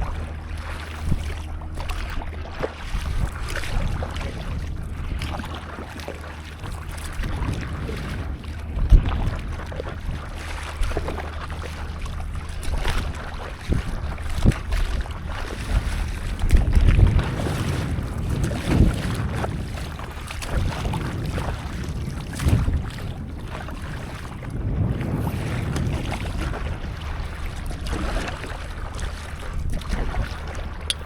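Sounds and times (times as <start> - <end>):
sea water sloshing and splashing: 0.0 - 31.0
wind rumbling on microphone: 0.0 - 31.0.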